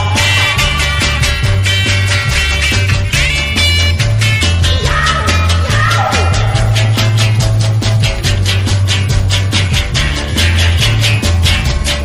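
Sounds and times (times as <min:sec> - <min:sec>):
rock song playback: 0:00.0 - 0:12.0.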